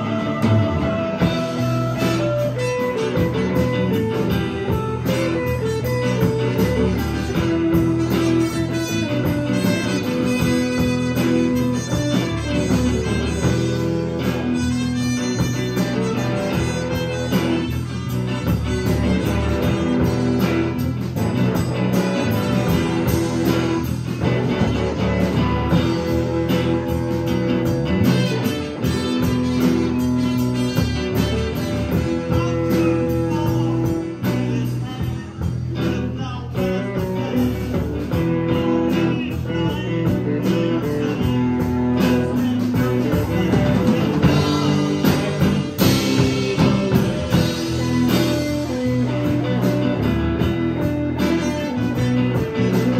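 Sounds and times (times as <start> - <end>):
trumpet: 0.0 - 35.2, 36.5 - 52.9
cymbals keeping a beat: 0.0 - 52.9
live rock band playing: 0.0 - 52.9.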